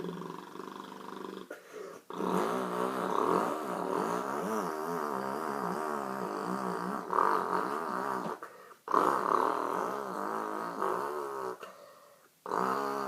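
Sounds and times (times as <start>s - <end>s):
person imitating engine revving: 0.0s - 1.5s, 2.1s - 11.6s.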